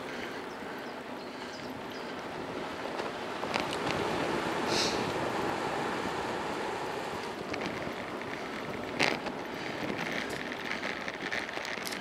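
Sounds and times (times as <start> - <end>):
tyres rolling on asphalt: 0.0 - 12.0
wind rushing over microphone: 0.0 - 12.0.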